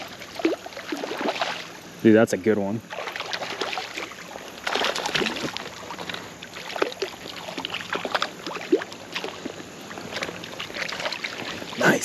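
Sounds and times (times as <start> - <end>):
fish thrashing and splashing water: 0.0 - 1.9, 2.8 - 11.9.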